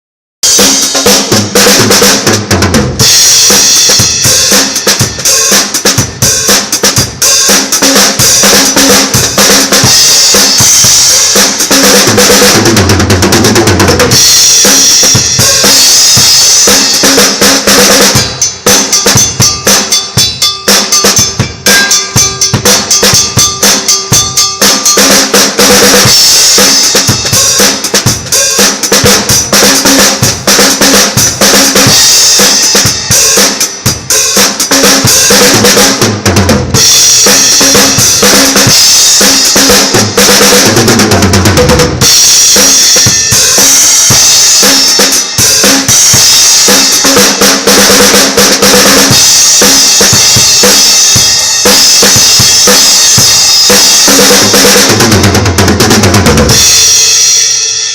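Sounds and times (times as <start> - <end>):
drum kit played fast: 0.4 - 57.9.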